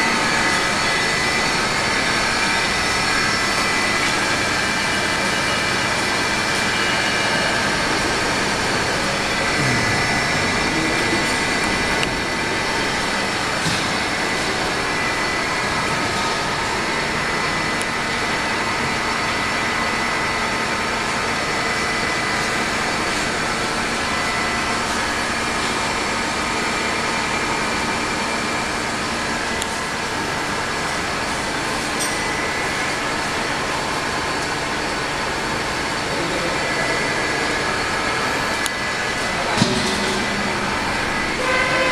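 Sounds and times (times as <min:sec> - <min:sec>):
high-pitched machine hums: 0:00.0 - 0:41.9
industrial machinery drone: 0:00.0 - 0:41.9.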